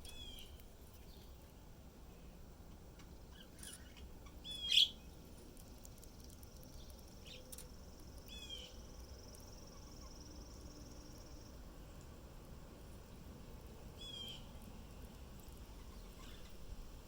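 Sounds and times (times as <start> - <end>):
songbird chirps: 0.0 - 1.6, 3.0 - 12.2, 13.9 - 16.8.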